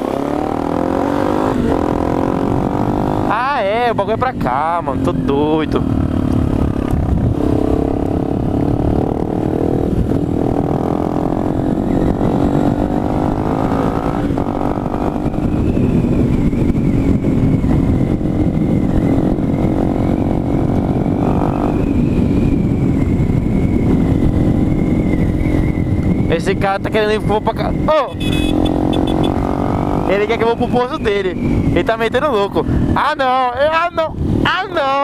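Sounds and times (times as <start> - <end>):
motorcycle engine running: 0.0 - 30.8
wind rumble on microphone: 0.0 - 35.0.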